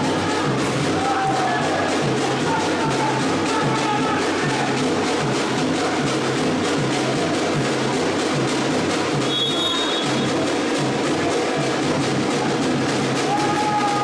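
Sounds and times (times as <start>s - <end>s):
music with percussive beat: 0.0s - 14.0s.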